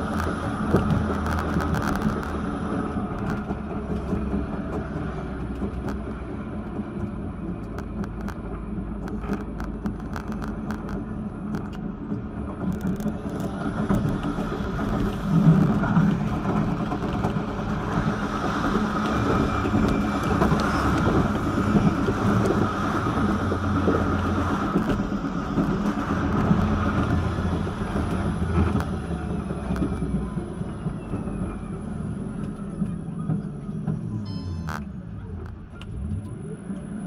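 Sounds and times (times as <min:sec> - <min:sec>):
tram motor noise: 0:00.0 - 0:37.0
tram wheels rumbling on rails: 0:00.0 - 0:37.0.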